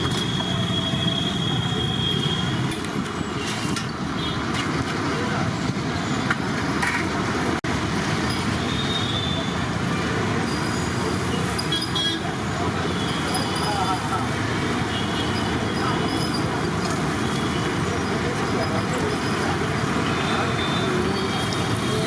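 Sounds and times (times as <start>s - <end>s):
street traffic noise: 0.0s - 22.0s.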